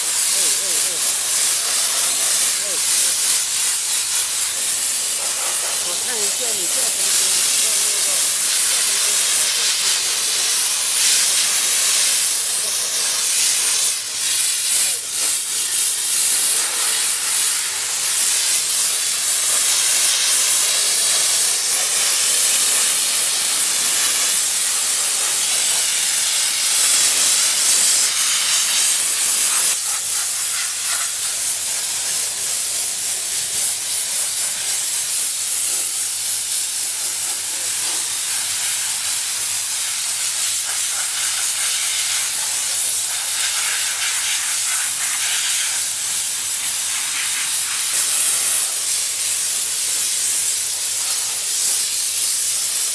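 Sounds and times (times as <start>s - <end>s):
steam gun hissing: 0.0s - 52.9s.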